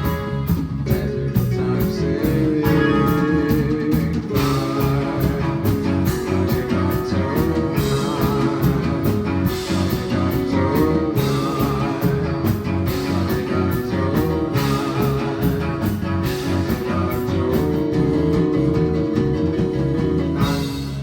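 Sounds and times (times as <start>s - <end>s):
rock band playing: 0.0s - 21.0s
sliding guitar notes: 0.0s - 21.0s.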